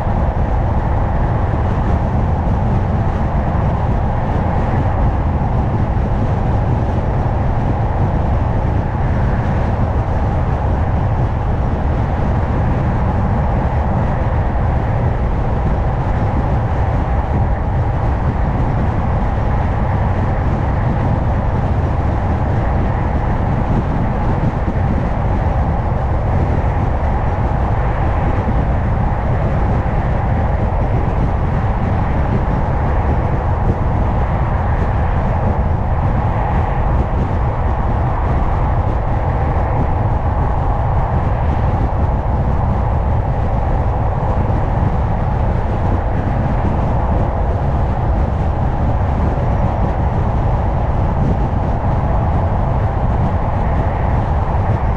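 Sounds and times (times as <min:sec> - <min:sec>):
car tyre and road noise: 0:00.0 - 0:54.9.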